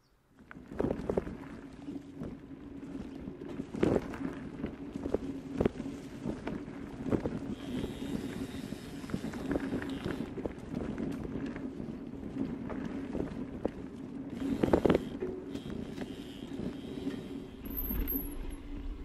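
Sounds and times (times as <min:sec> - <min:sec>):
vehicle engine hum: 0:00.4 - 0:19.0
wind on microphone: 0:00.4 - 0:19.0.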